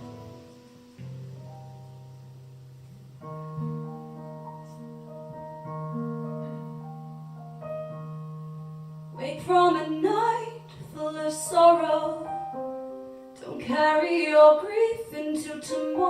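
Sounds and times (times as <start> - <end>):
keyboard playing held chords: 0.0 - 13.4.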